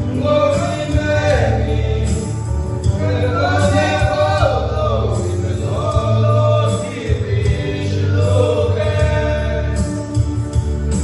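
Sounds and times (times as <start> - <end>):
men singing a hymn in harmony: 0.0 - 10.5
backing track with low bass: 0.0 - 11.0.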